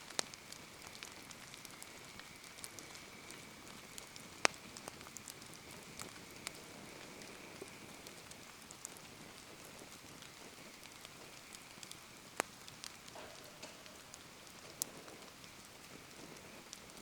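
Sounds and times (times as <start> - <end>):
bonfire crackling and popping: 0.0 - 17.0
steady rain falling: 0.0 - 17.0.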